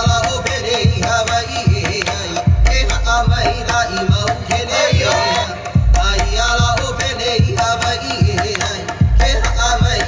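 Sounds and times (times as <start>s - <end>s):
low drum beating: 0.0s - 10.0s.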